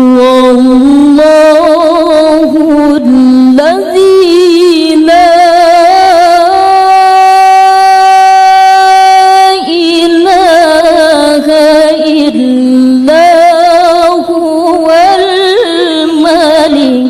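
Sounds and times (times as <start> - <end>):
woman reciting melodically: 0.0 - 17.0.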